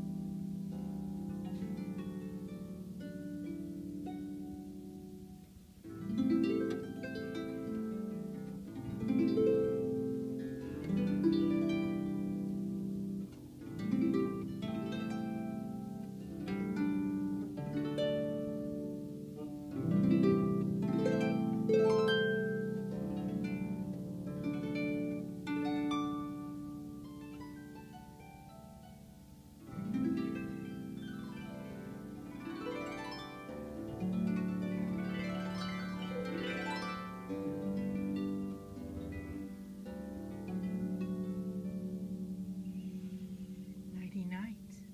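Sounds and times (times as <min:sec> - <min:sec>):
harp chords and arpeggios: 0:00.0 - 0:44.9.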